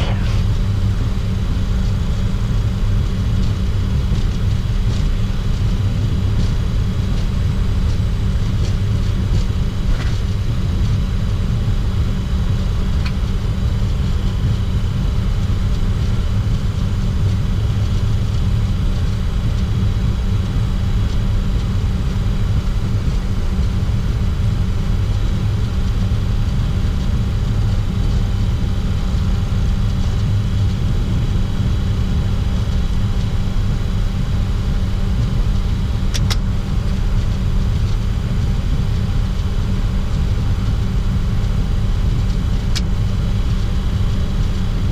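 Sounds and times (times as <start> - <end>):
jet engines at taxi power: 0.0 - 44.9
low cockpit rumble: 0.0 - 44.9.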